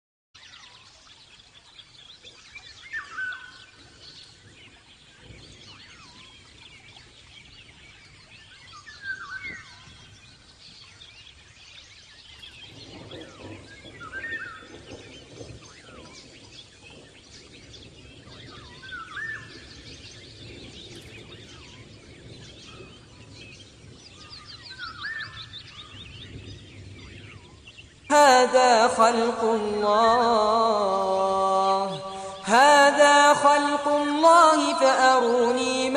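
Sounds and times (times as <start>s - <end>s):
small birds chirping: 0.4s - 35.9s.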